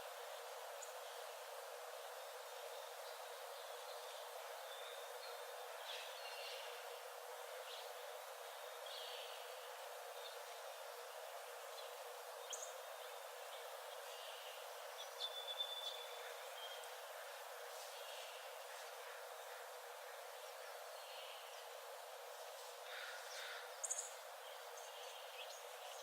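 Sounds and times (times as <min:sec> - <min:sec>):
steady forest hiss: 0:00.0 - 0:26.0.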